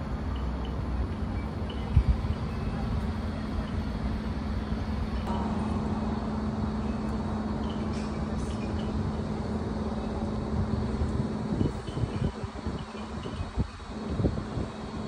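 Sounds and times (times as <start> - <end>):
mechanical hum with low rumble: 0.0 - 15.0.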